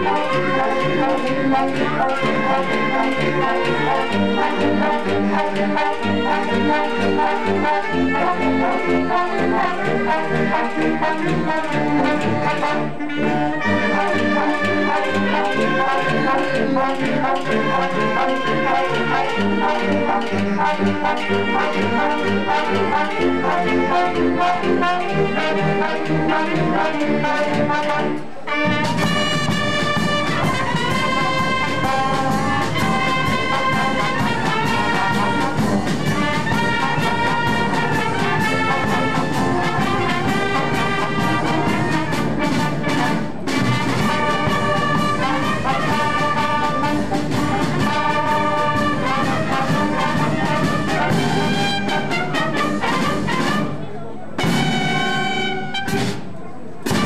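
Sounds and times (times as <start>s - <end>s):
trumpets and trombones playing tune: 0.0s - 57.0s.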